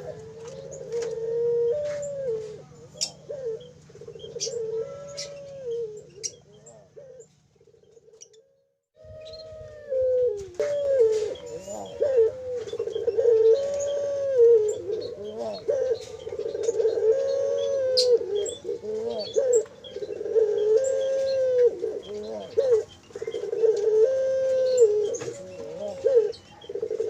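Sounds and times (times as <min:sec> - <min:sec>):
dove chicks whining begging calls: 0:00.0 - 0:27.0.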